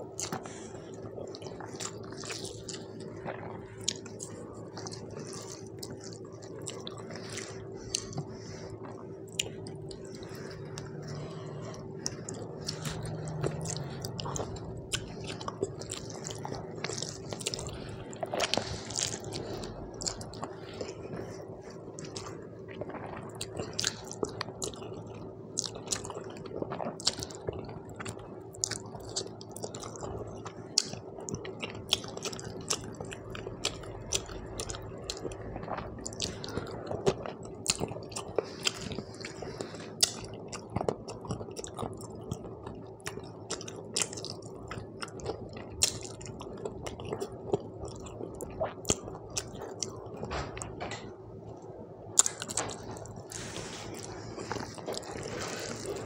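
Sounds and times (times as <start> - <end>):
close chewing with wet mouth clicks: 0.0 - 50.7, 52.2 - 56.0
faint steady hum: 0.0 - 56.0.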